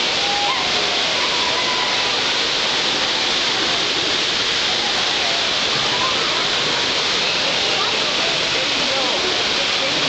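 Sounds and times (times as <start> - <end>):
water jets splashing: 0.0 - 10.0.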